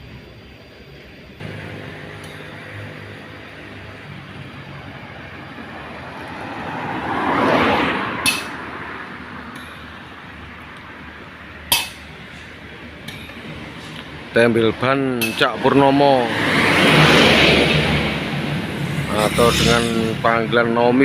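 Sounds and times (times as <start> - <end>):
steady background noise: 0.0 - 21.0
road vehicle passing: 1.4 - 21.0.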